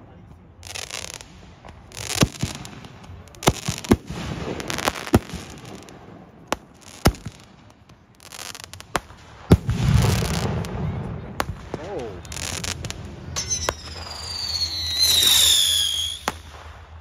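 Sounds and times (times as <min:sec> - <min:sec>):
crackling hiss: 0:00.6 - 0:10.8, 0:11.4 - 0:17.0
firework bangs: 0:00.6 - 0:17.0.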